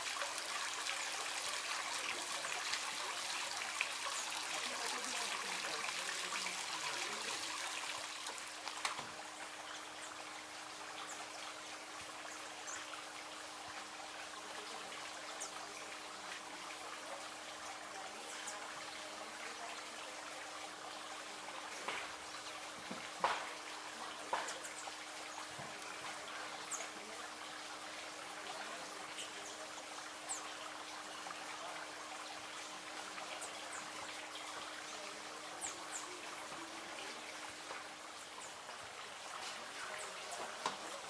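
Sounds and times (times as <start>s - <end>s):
forest stream rushing: 0.0s - 41.0s.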